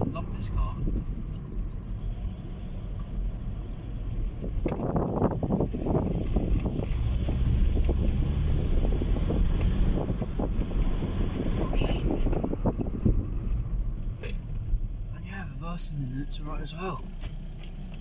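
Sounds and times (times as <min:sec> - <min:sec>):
wind noise: 0:00.0 - 0:15.0
engine and road rumble: 0:00.0 - 0:18.0.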